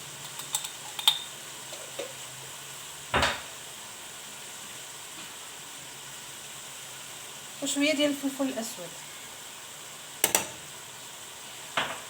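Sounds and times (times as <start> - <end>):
food frying in a pan: 0.0 - 12.0.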